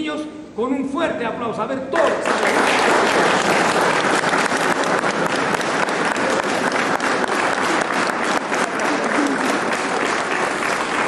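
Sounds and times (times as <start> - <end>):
crowd applauding: 2.0 - 11.0.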